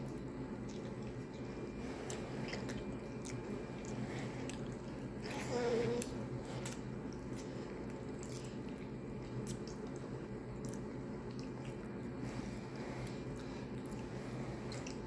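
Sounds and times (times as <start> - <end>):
wet chewing and squishing: 0.0 - 5.4, 6.0 - 15.0
low background hum: 0.0 - 15.0.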